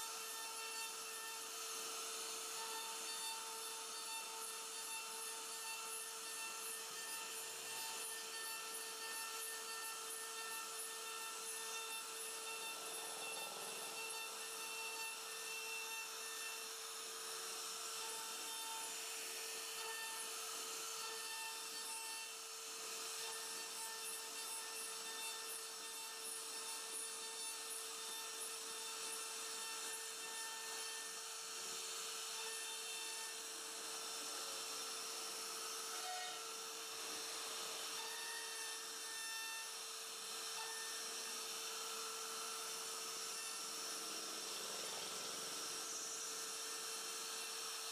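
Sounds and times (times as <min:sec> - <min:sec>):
router bit chipping wood: 0:00.0 - 0:47.9.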